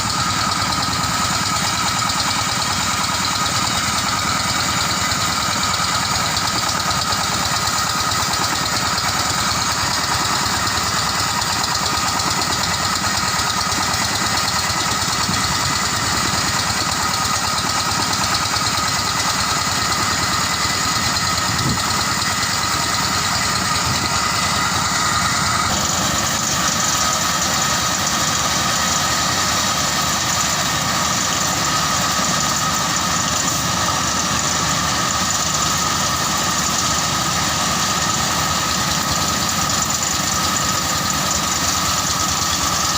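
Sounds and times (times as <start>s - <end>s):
rice thresher mechanical drone: 0.0s - 42.9s.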